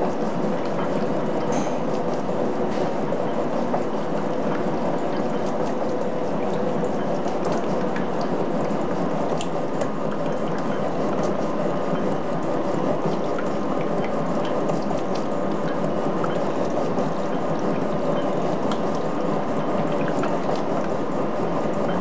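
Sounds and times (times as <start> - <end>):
gear-cutting machine noise: 0.0 - 22.0.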